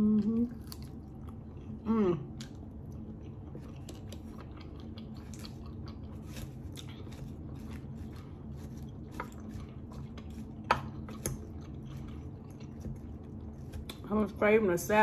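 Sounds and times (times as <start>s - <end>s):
chewing and crunching: 0.0s - 14.1s
low hum: 0.0s - 15.0s.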